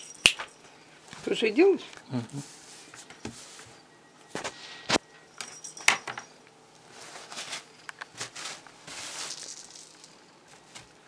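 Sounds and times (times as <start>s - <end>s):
handling noises: 0.0s - 11.0s.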